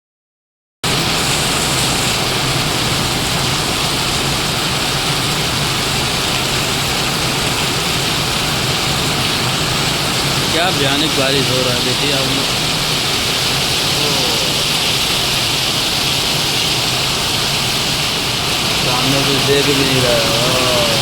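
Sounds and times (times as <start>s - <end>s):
heavy rain pouring: 0.8s - 21.0s.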